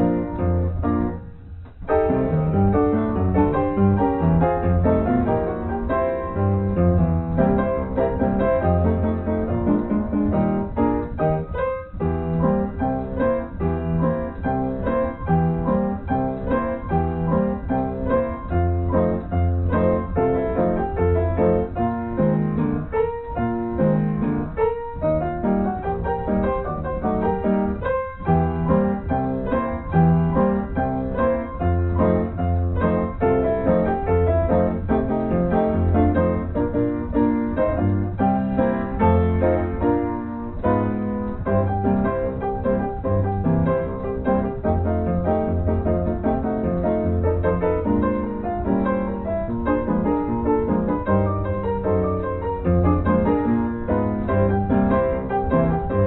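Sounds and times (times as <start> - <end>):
background piano music: 0.0 - 56.0.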